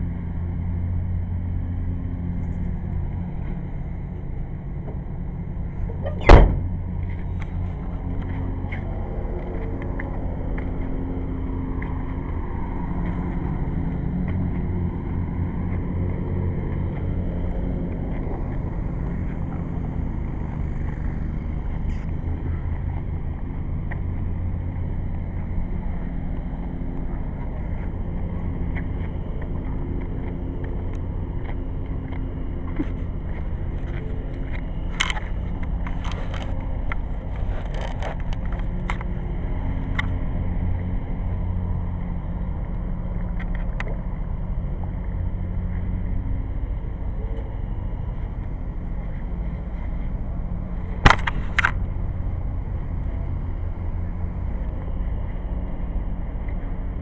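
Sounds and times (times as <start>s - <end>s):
engine running at low speed: 0.0s - 57.0s.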